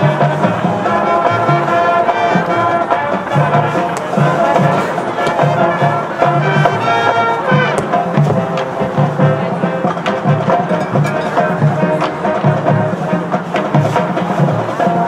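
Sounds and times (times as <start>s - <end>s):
drums keeping steady beat: 0.0s - 15.0s
marching band brass tune: 0.0s - 15.0s.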